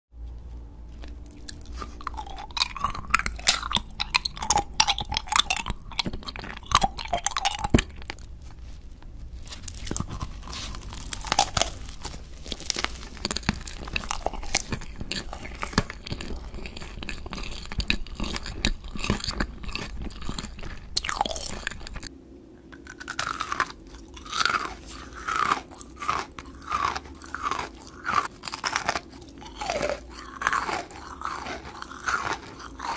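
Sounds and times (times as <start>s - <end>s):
candy crunching while chewing: 0.9s - 32.9s.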